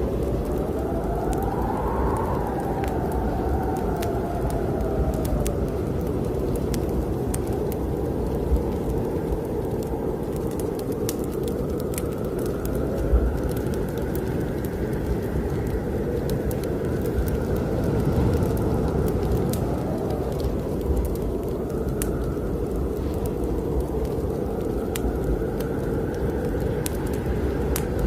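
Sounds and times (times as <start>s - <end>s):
snowstorm wind blowing: 0.0s - 28.0s
wood fire crackling: 0.0s - 28.0s.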